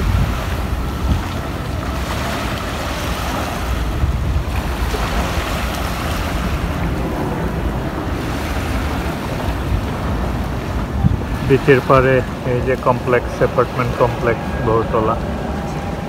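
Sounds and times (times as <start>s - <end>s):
waves washing on rocks: 0.0s - 16.0s
wind buffeting microphone: 0.0s - 16.0s.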